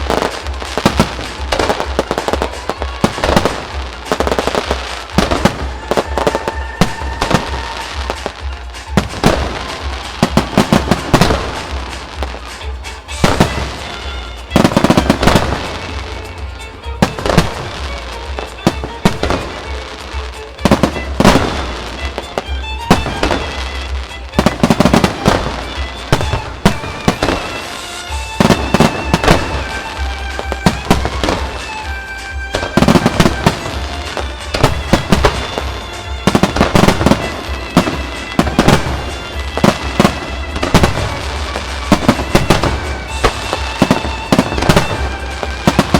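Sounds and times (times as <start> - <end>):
fireworks bangs and crackles: 0.0 - 45.9
music playing: 0.0 - 45.9.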